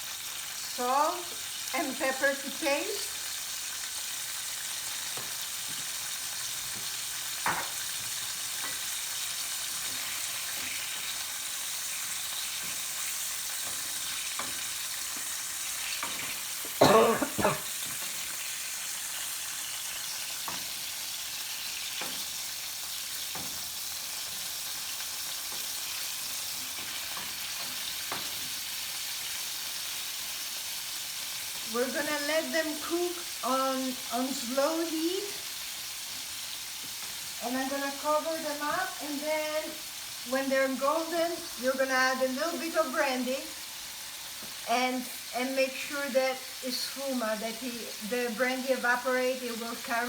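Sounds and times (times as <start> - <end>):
food sizzling in a pan: 0.0 - 50.0.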